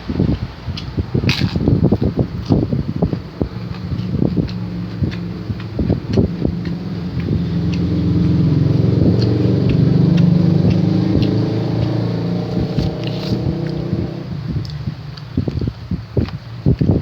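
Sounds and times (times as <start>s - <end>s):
vehicle engine running: 1.1s - 16.6s.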